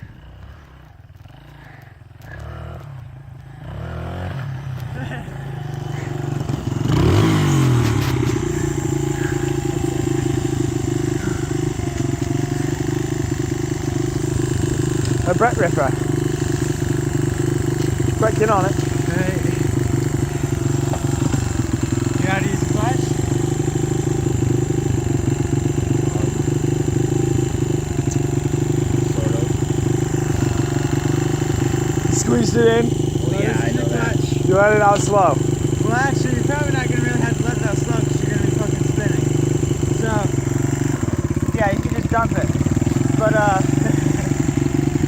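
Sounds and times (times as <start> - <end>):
dirt bike engine idling: 0.0 - 45.0.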